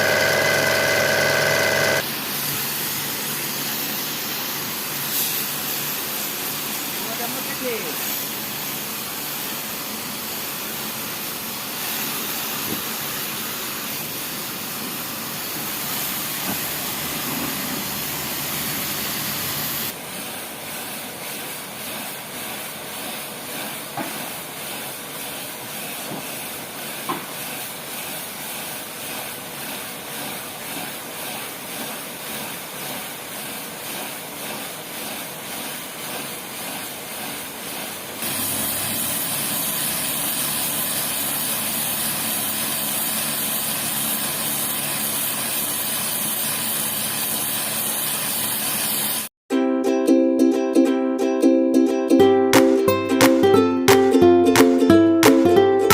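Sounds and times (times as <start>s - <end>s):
pressure washer spraying floor: 0.0s - 49.3s.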